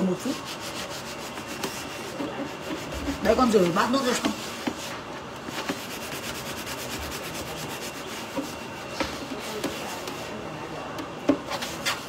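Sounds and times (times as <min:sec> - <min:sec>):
scrubbing at a sink: 0:00.0 - 0:10.3.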